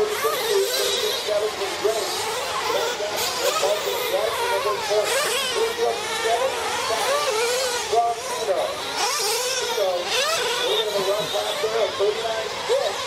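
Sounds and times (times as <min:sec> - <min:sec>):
rc truck engines whining: 0:00.0 - 0:13.0.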